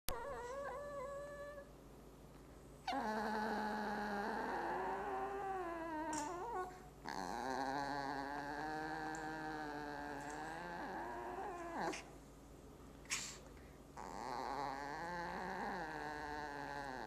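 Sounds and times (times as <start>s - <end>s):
dog whining high-pitched: 0.1s - 1.7s, 2.8s - 12.1s, 14.0s - 17.0s.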